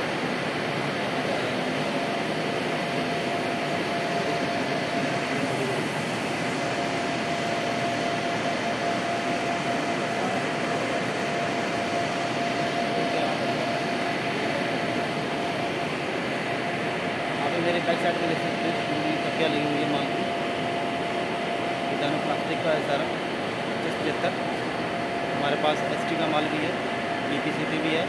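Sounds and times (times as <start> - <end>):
factory machinery humming: 0.0 - 28.0
thin mechanical whine: 0.0 - 28.0.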